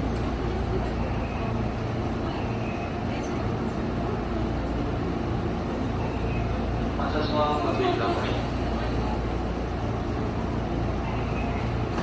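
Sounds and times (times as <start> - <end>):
train low hum and rumble: 0.0 - 12.0.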